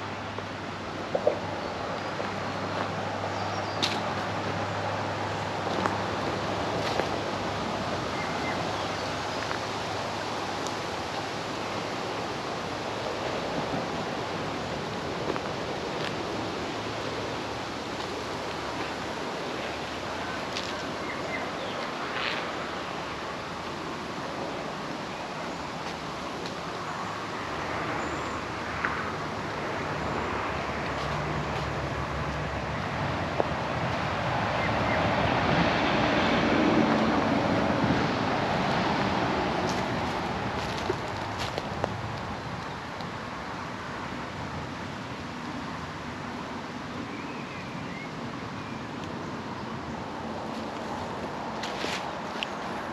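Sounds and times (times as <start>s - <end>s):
road traffic noise: 0.0s - 52.9s.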